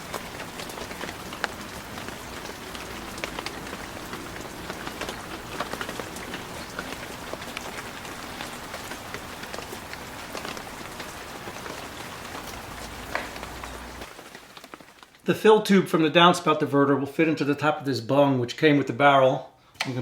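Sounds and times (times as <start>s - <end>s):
steady rain falling: 0.0s - 16.2s.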